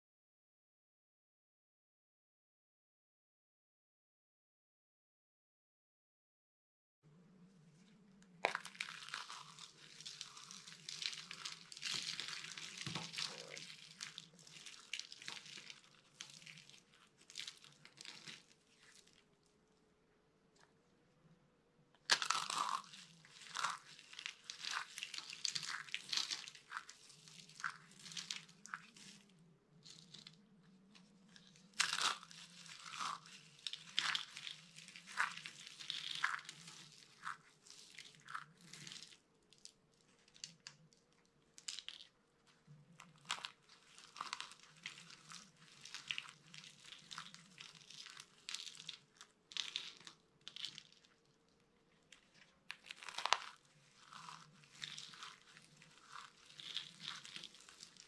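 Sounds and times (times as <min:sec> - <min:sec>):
soap baskets crunching: 0:08.4 - 0:19.4, 0:22.0 - 0:40.9, 0:41.5 - 0:58.0.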